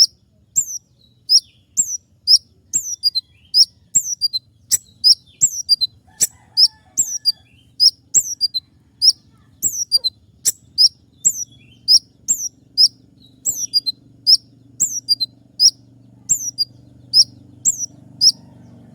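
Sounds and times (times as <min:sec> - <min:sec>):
faint low hum: 0:00.0 - 0:18.9
sunbird chirping: 0:00.0 - 0:18.9.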